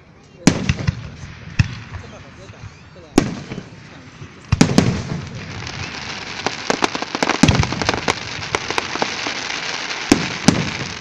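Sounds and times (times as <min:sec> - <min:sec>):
firework bangs: 0:00.4 - 0:11.0
firework crackle: 0:00.4 - 0:11.0.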